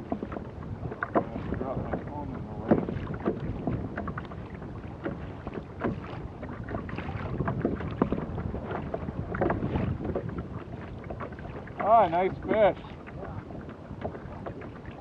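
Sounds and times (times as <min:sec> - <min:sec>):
waves lapping against a hull: 0:00.0 - 0:15.0
wind on microphone: 0:00.0 - 0:15.0.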